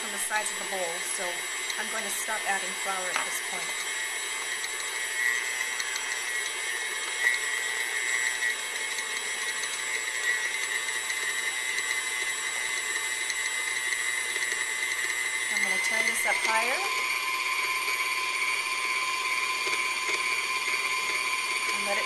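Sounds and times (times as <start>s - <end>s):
stand mixer motor humming: 0.0s - 22.0s.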